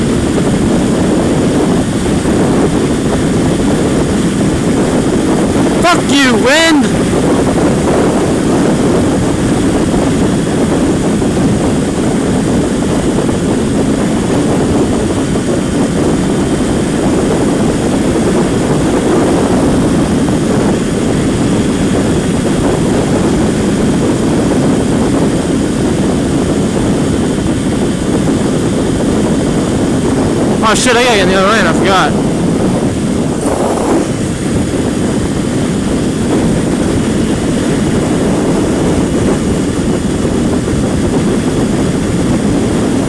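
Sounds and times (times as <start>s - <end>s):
wind buffeting helmet microphone: 0.0s - 43.0s.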